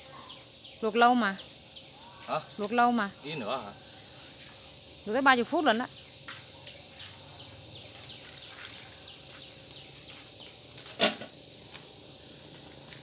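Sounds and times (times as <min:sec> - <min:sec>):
high-pitched insect chirring: 0:00.0 - 0:13.0.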